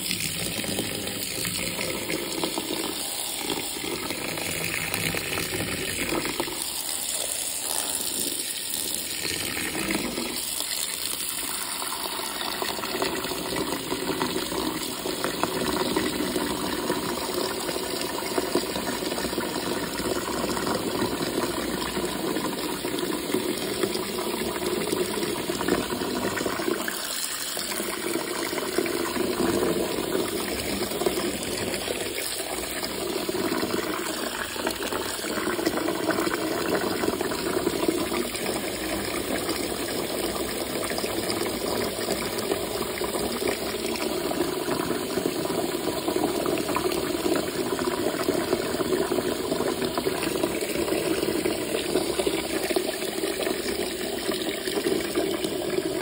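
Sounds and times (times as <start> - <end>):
tap water pouring into bucket: 0.0 - 56.0.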